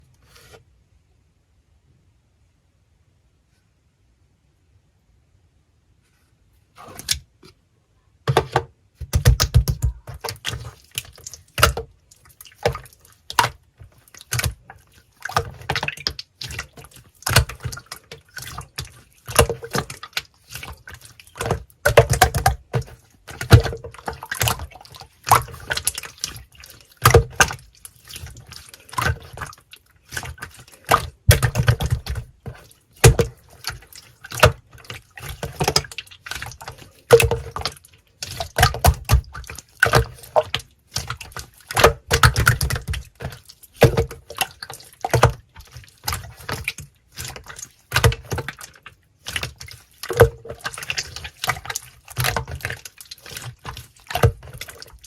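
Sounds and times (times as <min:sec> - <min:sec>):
wet clicks and squelches: 0:06.9 - 0:07.3, 0:08.3 - 0:55.0.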